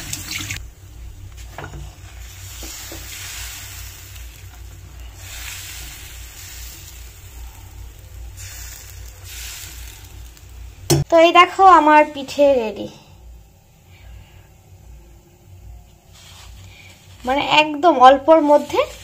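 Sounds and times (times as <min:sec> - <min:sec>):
batter sizzling in a frying pan: 0:00.0 - 0:12.8, 0:15.9 - 0:19.0.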